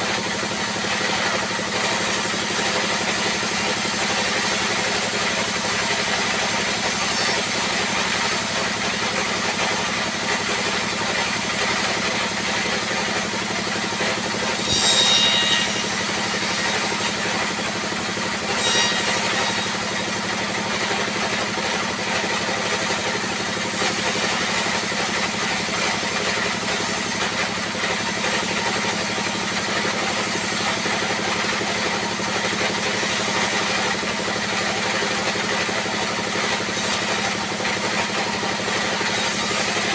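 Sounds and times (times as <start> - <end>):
saw blade cutting timber: 0.0 - 39.9
sawmill saw running: 0.0 - 39.9.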